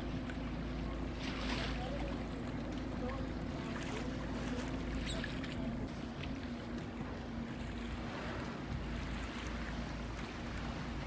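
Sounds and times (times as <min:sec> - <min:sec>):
boat engine droning: 0:00.0 - 0:11.0
choppy water washing: 0:00.0 - 0:11.0
wind: 0:00.0 - 0:11.0.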